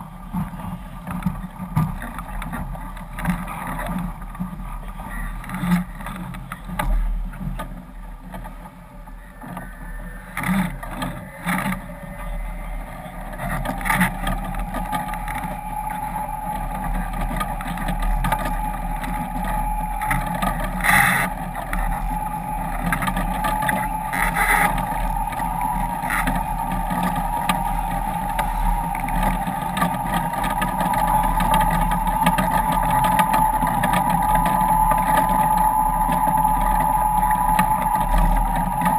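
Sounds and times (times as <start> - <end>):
steady high whine: 0.0 - 38.9.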